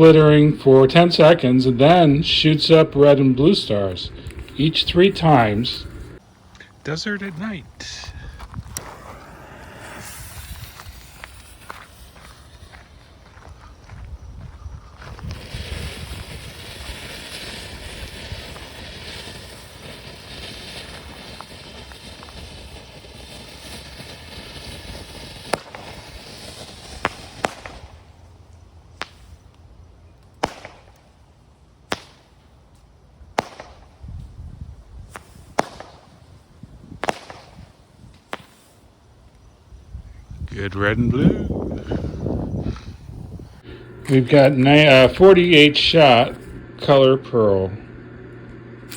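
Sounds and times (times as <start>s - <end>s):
firework stars popping: 1.0s - 46.9s
firework fountain hissing: 2.0s - 47.1s, 47.8s - 48.9s.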